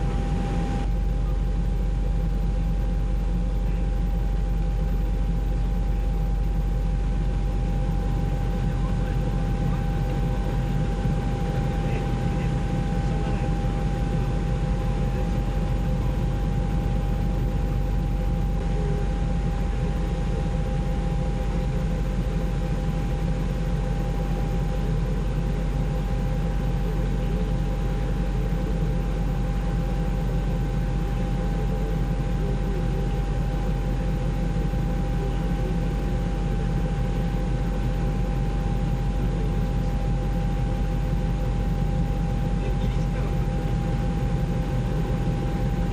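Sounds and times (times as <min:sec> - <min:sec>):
constant whine: 0:00.0 - 0:45.9
helicopter rotor and turbine drone: 0:00.0 - 0:45.9.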